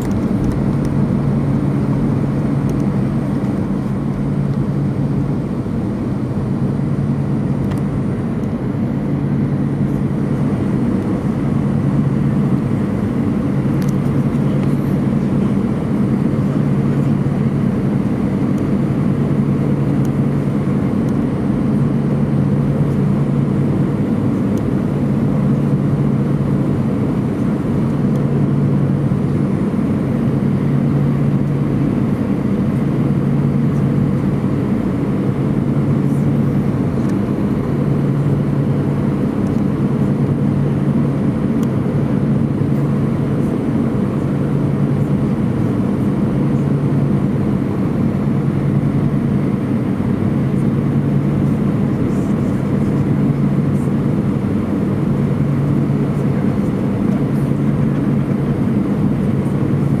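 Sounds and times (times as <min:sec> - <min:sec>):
jet engines from inside cabin: 0:00.0 - 1:00.0.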